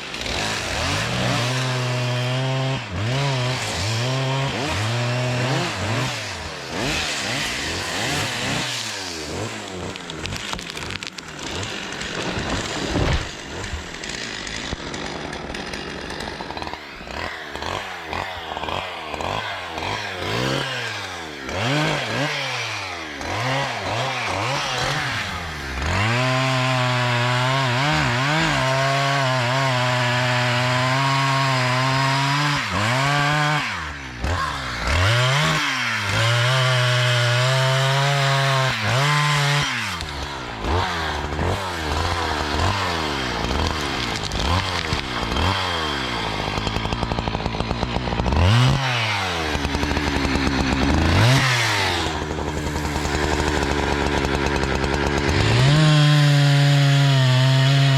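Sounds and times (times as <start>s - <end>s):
chainsaw revving: 0.0s - 57.9s.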